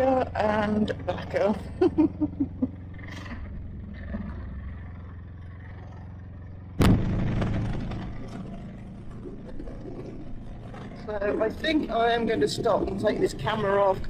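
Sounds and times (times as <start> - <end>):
motorcycle engine humming: 0.0 - 14.0
wind: 0.0 - 14.0.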